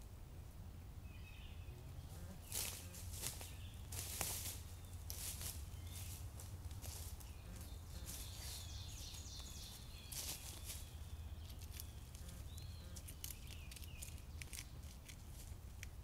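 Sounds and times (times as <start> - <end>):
songbird singing: 0.0 - 16.0
steady low hum: 0.0 - 16.0
dry leaves crackling underfoot: 2.4 - 16.0.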